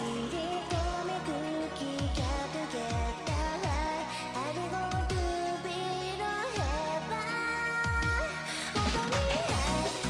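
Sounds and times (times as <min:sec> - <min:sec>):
gliding melodic lead line: 0:00.0 - 0:10.0.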